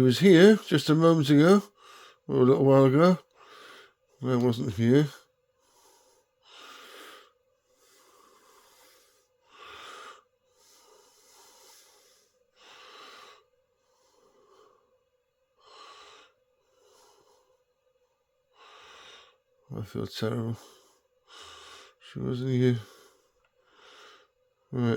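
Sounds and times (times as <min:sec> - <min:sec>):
soft slow breathing: 0:01.7 - 0:02.3, 0:03.3 - 0:04.2, 0:05.5 - 0:19.7, 0:20.3 - 0:24.7.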